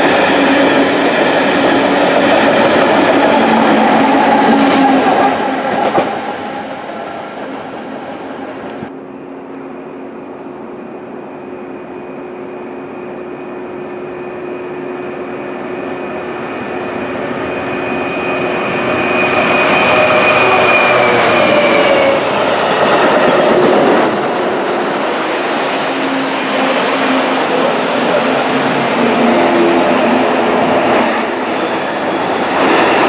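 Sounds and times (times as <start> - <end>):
rail machine diesel engine: 0.0 - 33.0.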